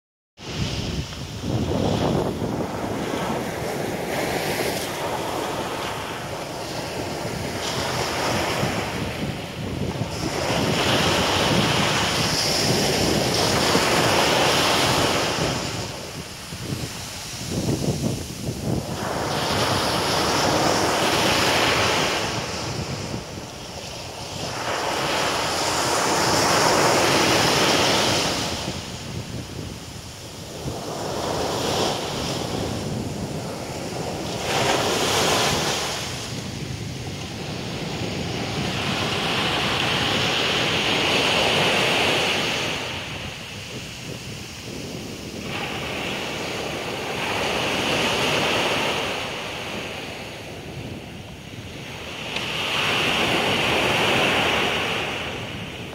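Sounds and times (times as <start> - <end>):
surf breaking on beach: 0.4 - 55.9
wind buffeting microphone: 0.4 - 55.9.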